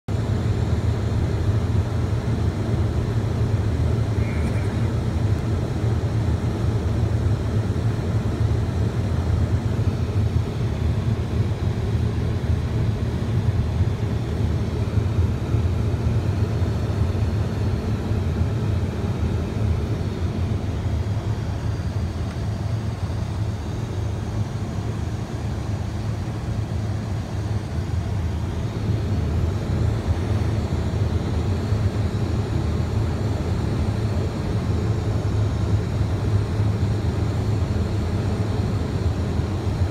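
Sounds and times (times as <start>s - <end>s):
aircraft engine drone in cabin: 0.1s - 39.9s.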